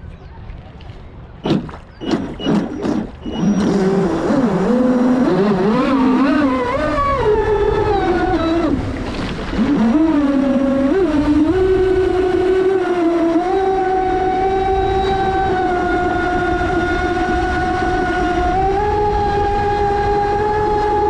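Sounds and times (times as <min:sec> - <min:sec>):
electric motor whining: 0:02.1 - 0:08.9, 0:09.5 - 0:21.0.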